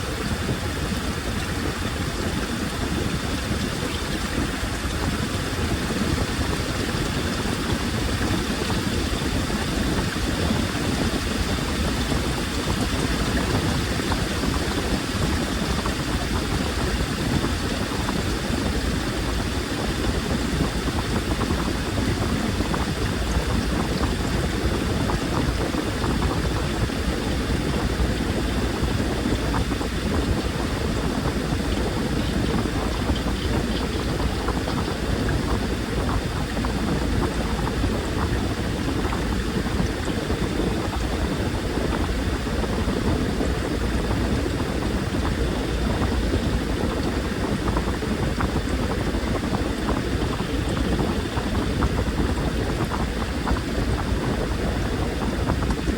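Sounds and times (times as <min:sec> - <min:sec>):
low motor hum: 0:00.0 - 0:55.9
water churning in washing machine: 0:00.0 - 0:55.9.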